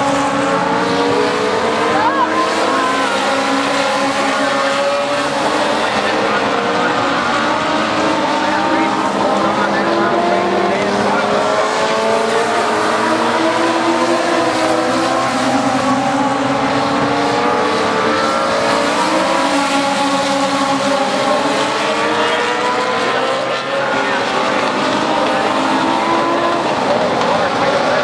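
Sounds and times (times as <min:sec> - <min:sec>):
race car engines at high revs: 0:00.0 - 0:28.0.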